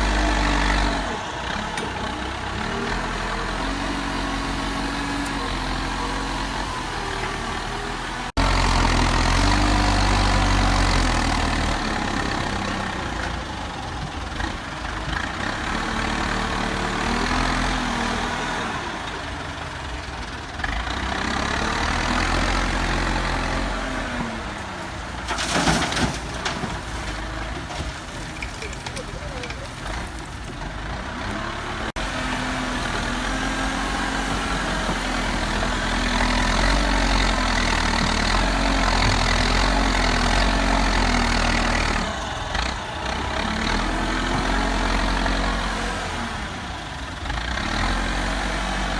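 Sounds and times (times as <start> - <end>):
heavy diesel engines revving: 0.0 - 48.9.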